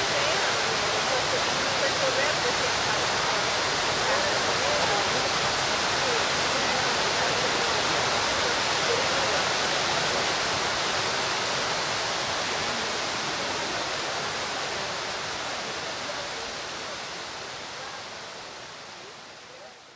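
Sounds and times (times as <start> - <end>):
fountain water splashing: 0.0 - 19.9.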